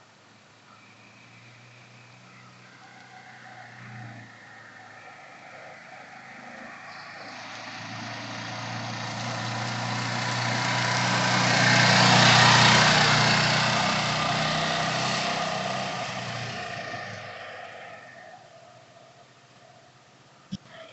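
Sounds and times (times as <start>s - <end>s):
vehicle passing by: 0.7s - 19.3s.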